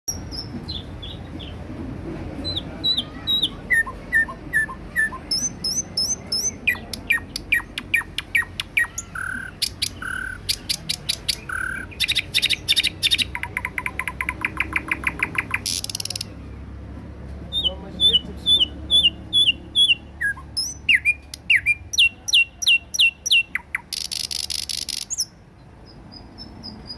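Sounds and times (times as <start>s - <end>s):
nightingale singing: 2.5s - 16.4s, 17.5s - 26.9s.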